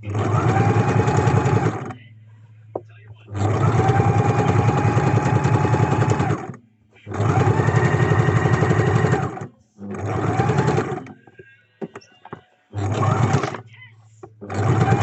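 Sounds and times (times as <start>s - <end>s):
sewing machine stitching: 0.0s - 2.0s, 3.3s - 13.7s, 14.3s - 15.0s.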